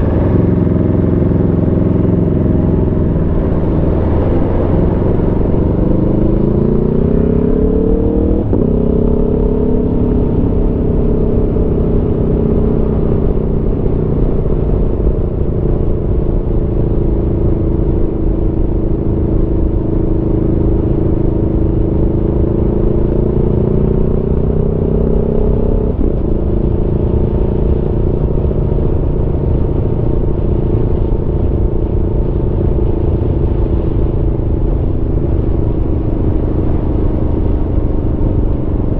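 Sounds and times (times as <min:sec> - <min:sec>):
motorcycle engine revving: 0:00.0 - 0:38.9
steady rushing noise: 0:00.0 - 0:38.9.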